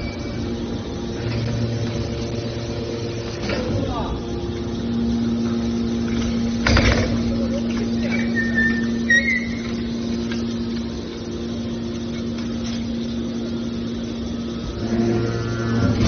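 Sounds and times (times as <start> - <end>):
baler power unit humming: 0.0 - 16.0
deeper hum: 0.0 - 16.0.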